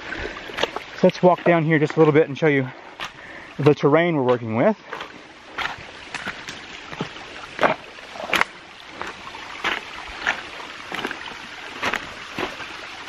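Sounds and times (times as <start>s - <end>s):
creek running: 0.0s - 13.0s
footsteps on leaves and stones: 0.2s - 13.0s.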